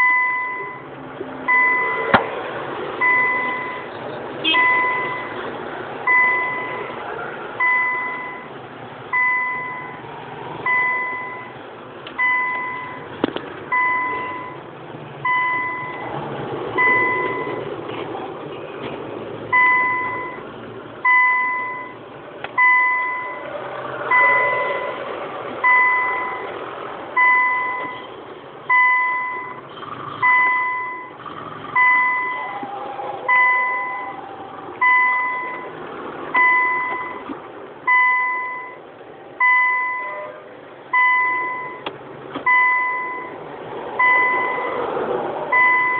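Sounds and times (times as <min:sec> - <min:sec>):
vehicle warning chime dinging: 0:00.0 - 0:02.3, 0:03.0 - 0:05.4, 0:06.1 - 0:07.0, 0:07.6 - 0:16.2, 0:16.8 - 0:17.7, 0:19.5 - 0:23.5, 0:24.1 - 0:25.0, 0:25.6 - 0:26.6, 0:27.2 - 0:43.4, 0:44.0 - 0:44.8, 0:45.5 - 0:45.9.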